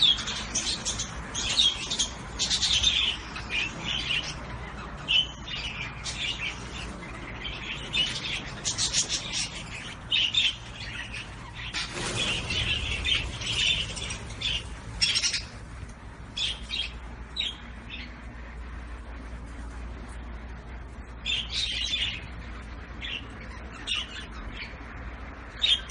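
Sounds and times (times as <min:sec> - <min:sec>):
finches chirping and squawking: 0:00.0 - 0:25.9.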